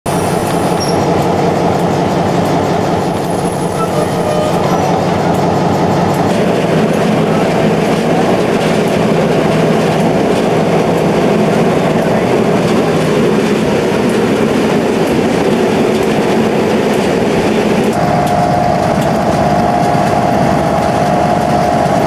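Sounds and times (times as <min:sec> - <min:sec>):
diesel locomotive engine drone: 0:00.0 - 0:22.0
train rolling on rails: 0:00.0 - 0:22.0.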